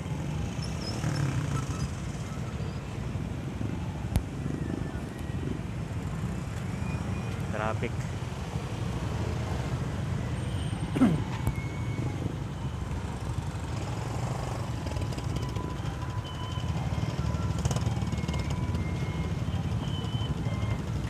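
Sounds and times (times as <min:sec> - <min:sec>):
motorcycle engine and road rumble: 0:00.0 - 0:21.0.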